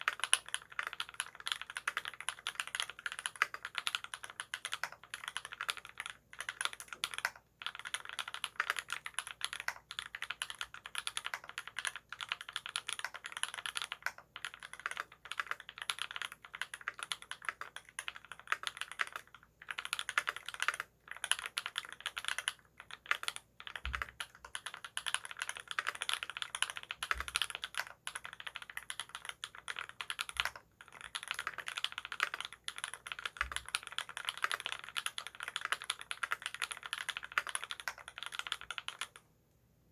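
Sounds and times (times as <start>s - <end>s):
mechanical keyboard typing: 0.0s - 39.2s.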